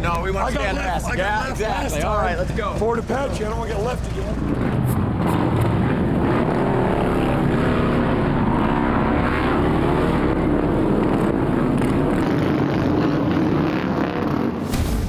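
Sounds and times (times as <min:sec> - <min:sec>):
motorcycle engines revving: 0:00.0 - 0:14.7.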